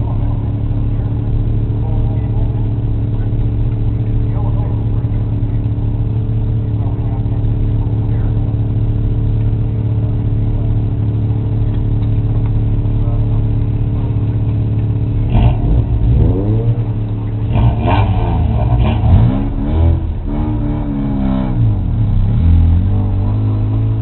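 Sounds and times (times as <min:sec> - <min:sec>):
sports car engine revving: 0:00.0 - 0:24.0.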